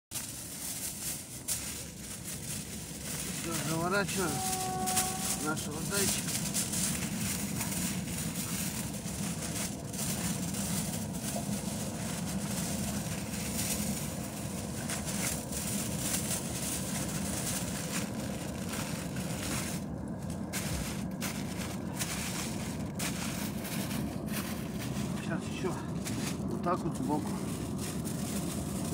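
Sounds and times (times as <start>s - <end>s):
aluminium foil crinkling: 0.1s - 28.9s
steady low rumble: 0.1s - 28.9s.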